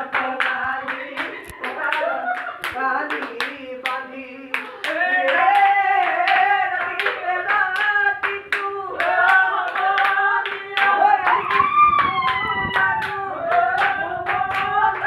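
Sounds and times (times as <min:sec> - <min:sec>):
hand claps: 0:00.0 - 0:15.0
person singing folk song: 0:00.0 - 0:15.0.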